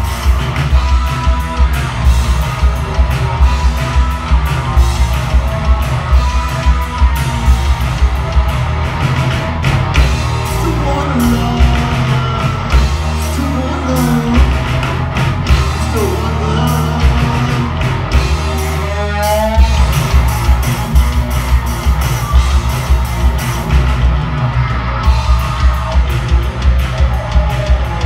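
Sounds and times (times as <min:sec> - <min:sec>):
bass guitar: 0:00.0 - 0:28.0
drum kit beat: 0:00.0 - 0:28.0
electric guitar: 0:00.0 - 0:28.0.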